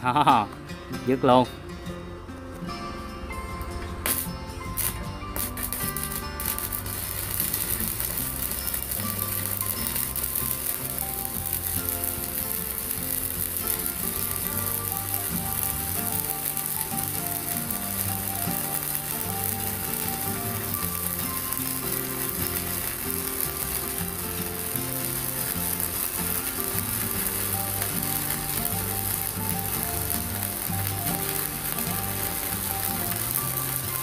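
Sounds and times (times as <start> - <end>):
background music with stepped melody: 0.0 - 34.0
welding arc crackling and hissing: 4.0 - 34.0.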